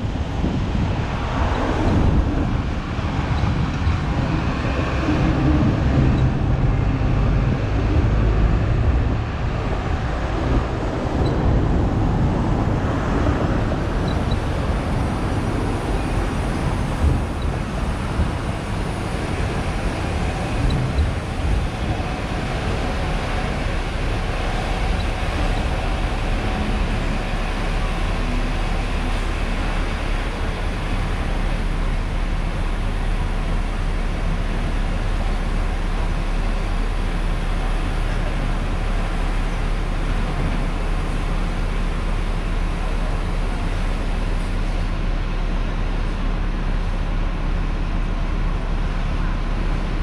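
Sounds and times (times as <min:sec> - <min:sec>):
street traffic: 0:00.0 - 0:50.0
tram rumbling on rails: 0:00.0 - 0:50.0.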